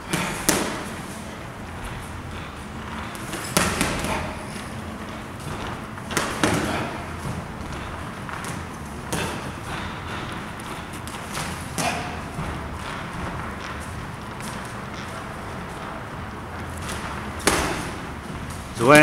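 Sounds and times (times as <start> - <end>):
boxing gloves punching: 0.0 - 18.7.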